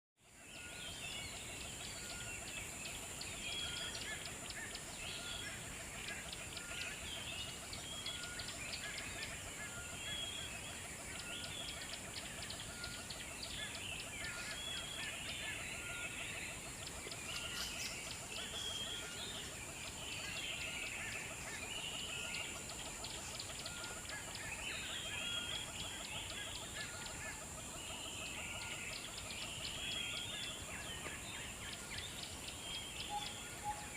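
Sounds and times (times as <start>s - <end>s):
small birds chirping: 0.6s - 33.9s.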